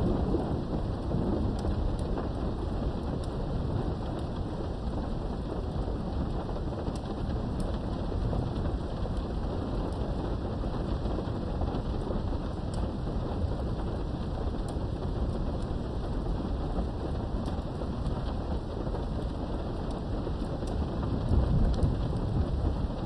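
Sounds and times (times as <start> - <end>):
low thunder rumble: 0.0 - 23.0
rain behind window: 0.0 - 23.0.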